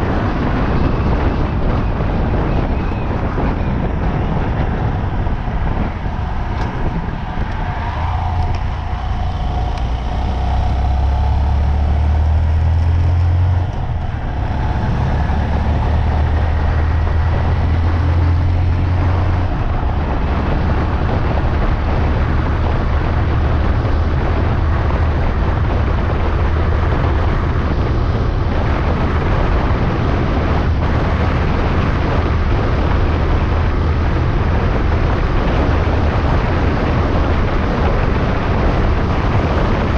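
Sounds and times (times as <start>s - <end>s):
road and wind noise: 0.0s - 39.9s
vehicle engine drone: 0.0s - 39.9s.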